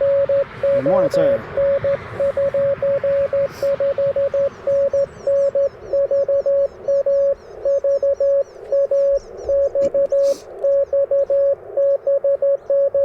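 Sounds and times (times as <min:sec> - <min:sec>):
morse code tone: 0:00.0 - 0:13.0.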